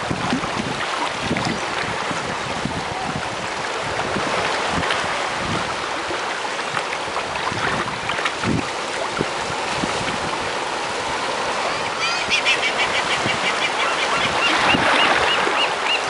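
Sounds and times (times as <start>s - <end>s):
surf and moving seawater: 0.0s - 16.0s
wind buffeting microphone: 0.0s - 16.0s.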